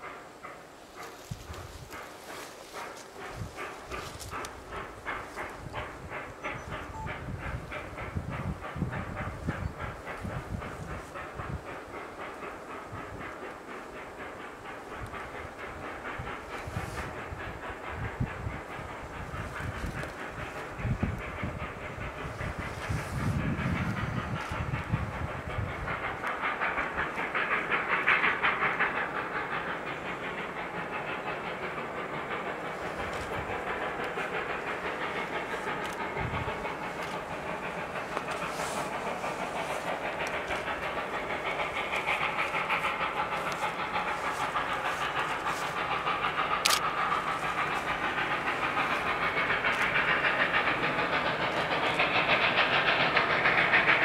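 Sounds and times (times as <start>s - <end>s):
steam hissing: 0.0s - 54.0s
steam locomotive exhaust beating: 0.0s - 54.0s.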